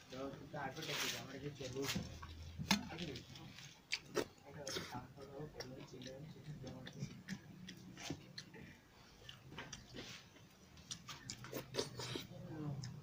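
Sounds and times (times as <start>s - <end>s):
chewing and lip smacks: 2.2s - 13.0s.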